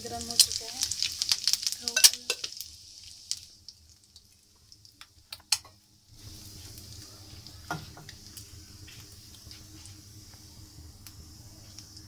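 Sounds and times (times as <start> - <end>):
oil sizzling: 0.0 - 12.0
seeds crackling in hot oil: 0.0 - 12.0.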